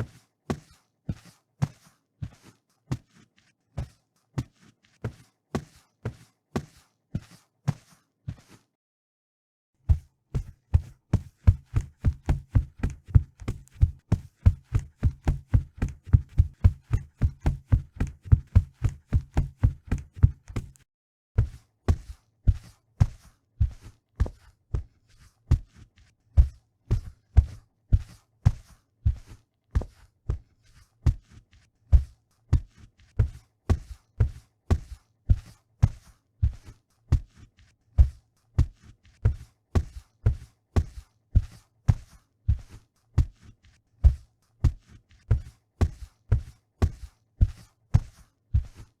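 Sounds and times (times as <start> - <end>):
footsteps with dull thud and click: 0.1 - 8.6, 9.8 - 49.0.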